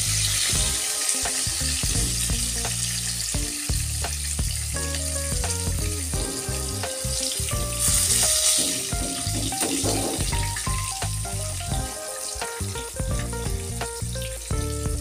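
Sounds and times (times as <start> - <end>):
background music: 0.0 - 15.0
fish sizzling in hot oil: 0.0 - 15.0.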